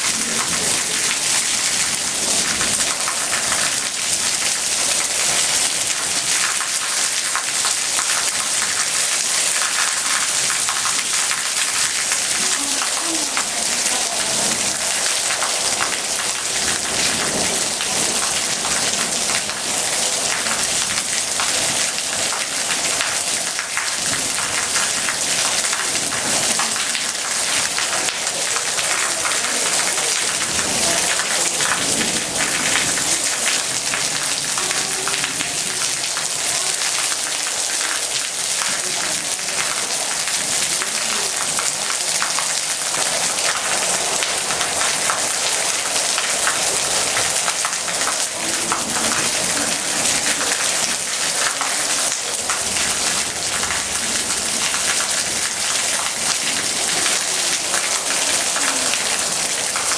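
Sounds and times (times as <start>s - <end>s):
heavy rain on rooftops: 0.0s - 59.9s.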